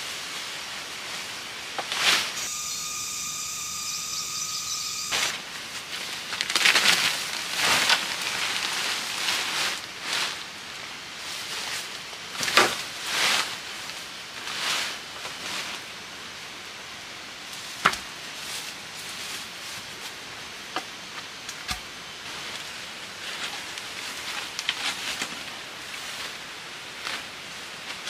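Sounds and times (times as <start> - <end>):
rustling foliage: 0.0 - 28.0.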